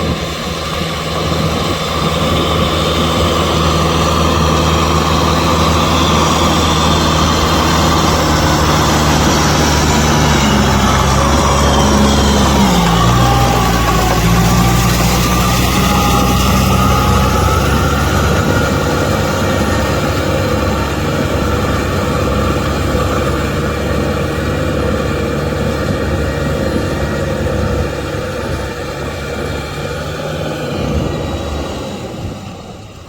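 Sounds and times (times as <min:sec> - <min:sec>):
faint whine: 0:00.0 - 0:33.0
tractor diesel engine running: 0:00.0 - 0:33.0.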